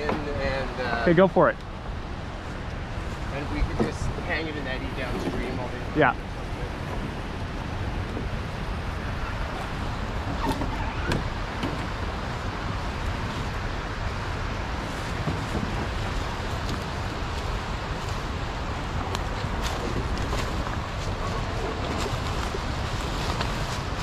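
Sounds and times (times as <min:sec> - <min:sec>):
crackles in dry leaves: 0:00.0 - 0:07.7, 0:09.0 - 0:24.0
wind rumbling on microphone: 0:00.0 - 0:24.0.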